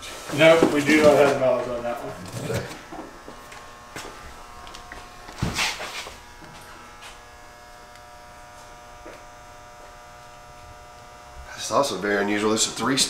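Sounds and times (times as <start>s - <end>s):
steady electrical buzz: 0.0s - 13.0s.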